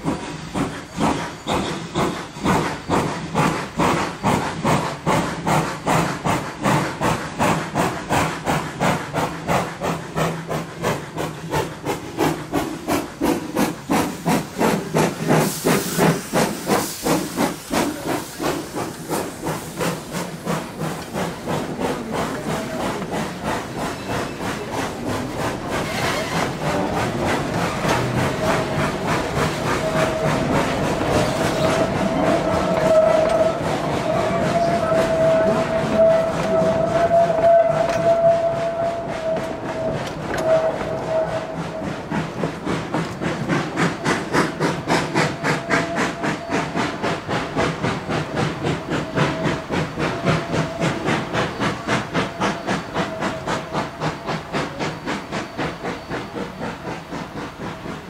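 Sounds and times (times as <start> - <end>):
steam hissing: 0.0 - 58.0
steam locomotive chuffing: 0.0 - 58.0.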